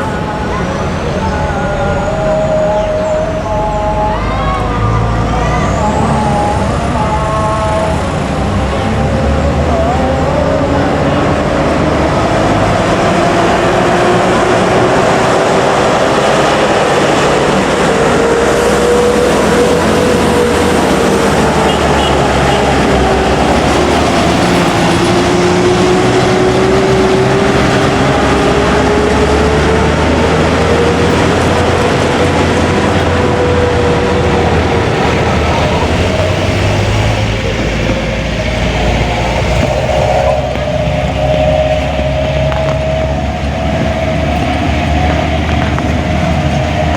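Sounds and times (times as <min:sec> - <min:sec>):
vehicle engine and road noise: 0:00.0 - 0:46.9.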